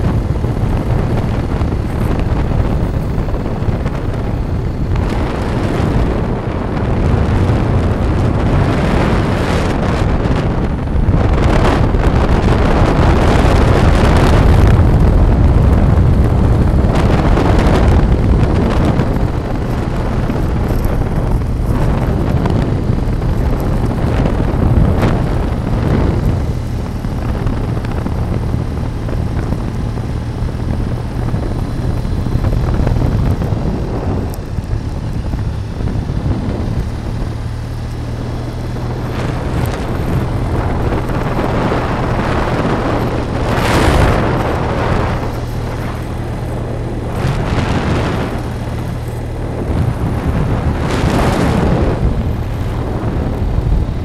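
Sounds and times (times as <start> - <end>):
road and motor noise: 0.0 - 54.0
wind rushing over microphone: 0.0 - 54.0.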